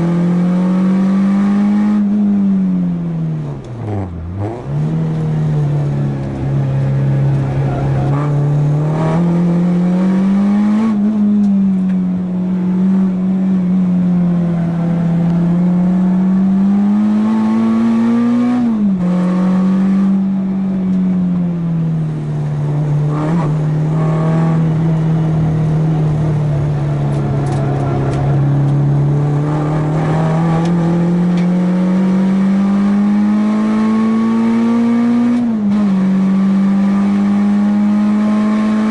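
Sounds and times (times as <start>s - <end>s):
racing car engine accelerating: 0.0s - 38.9s.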